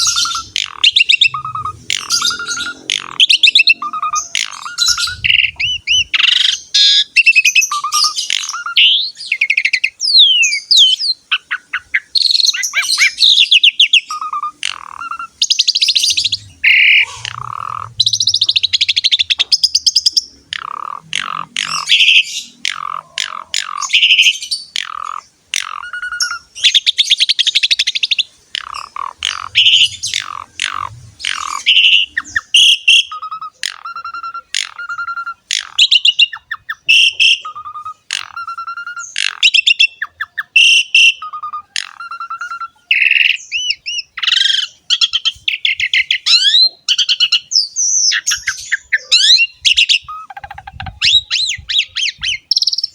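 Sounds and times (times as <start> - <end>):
starling singing: 0.0 - 52.9.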